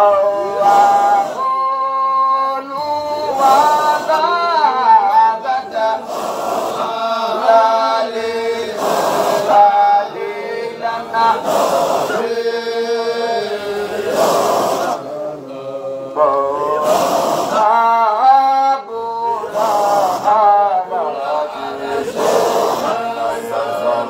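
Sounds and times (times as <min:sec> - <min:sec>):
men chanting together: 0:00.0 - 0:24.0.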